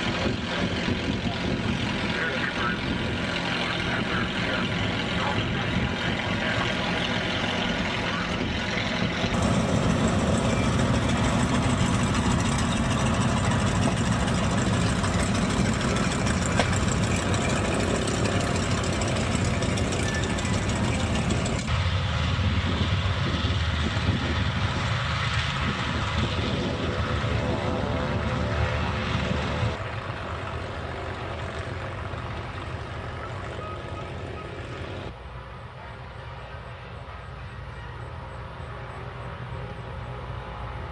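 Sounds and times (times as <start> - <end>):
engine idling: 0.0 - 25.2, 25.9 - 35.2.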